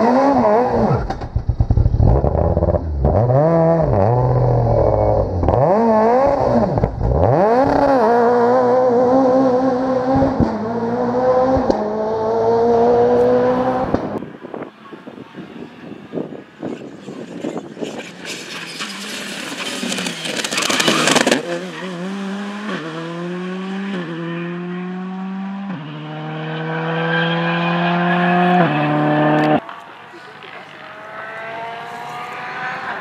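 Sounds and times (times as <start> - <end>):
rally car engine revving: 0.0 - 14.2, 16.9 - 29.8, 30.4 - 33.0.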